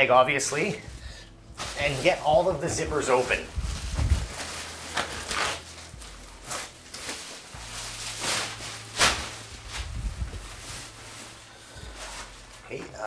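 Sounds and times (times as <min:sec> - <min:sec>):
plastic wrapping crinkling: 0:01.6 - 0:13.0.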